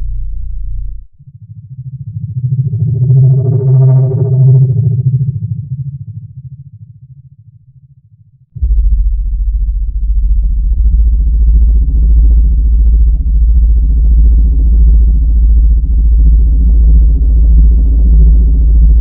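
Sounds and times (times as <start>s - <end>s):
deep synthesized drone: 0.0s - 5.8s, 8.6s - 19.0s.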